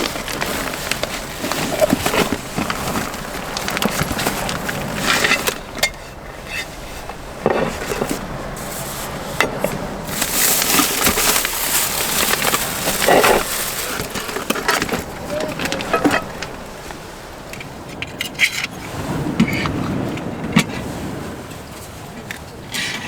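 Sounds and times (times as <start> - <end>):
utensils clattering on cookware: 0.0 - 20.4.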